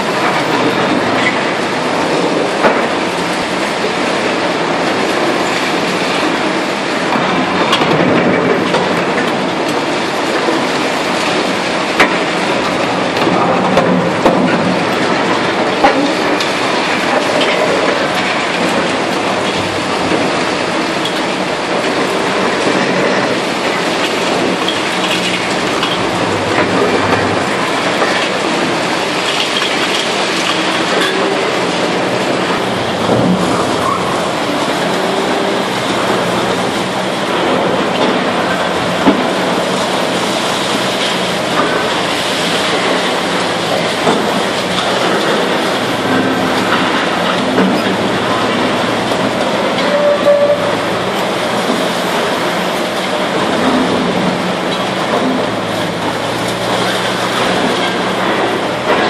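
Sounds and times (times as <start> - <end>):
falling rubble: 0.0 - 59.0.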